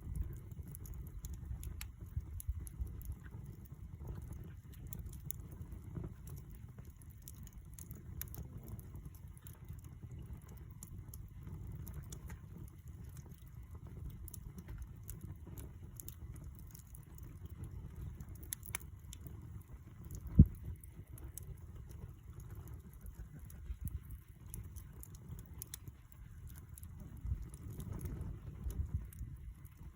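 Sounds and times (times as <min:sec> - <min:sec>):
campfire crackling and popping: 0:00.0 - 0:29.9.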